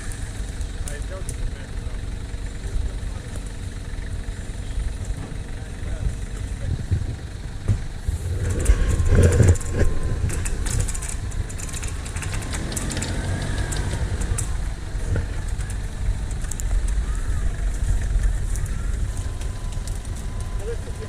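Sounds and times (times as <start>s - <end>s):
faint wavering whine: 0.0s - 12.3s, 14.0s - 21.0s
off-road vehicle engine rumble: 0.0s - 21.0s
sharp clicks and crackles: 0.0s - 21.0s.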